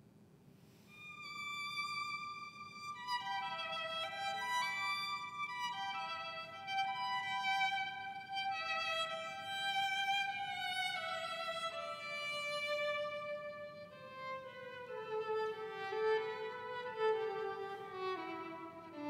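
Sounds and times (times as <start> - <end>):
violin slow melody: 0.9 - 19.0.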